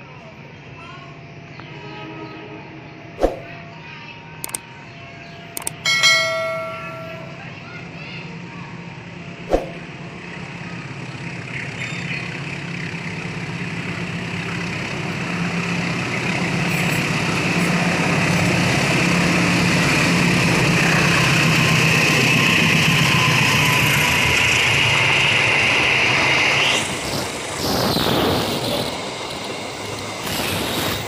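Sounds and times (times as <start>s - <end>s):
diesel locomotive engine drone: 0.0s - 31.0s
wheel-on-rail rumble: 5.9s - 31.0s.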